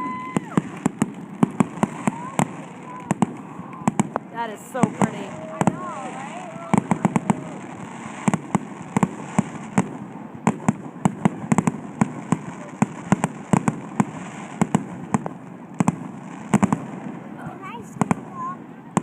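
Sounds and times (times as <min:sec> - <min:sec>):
fireworks bangs: 0:00.0 - 0:19.0
steady background hiss: 0:00.0 - 0:19.0.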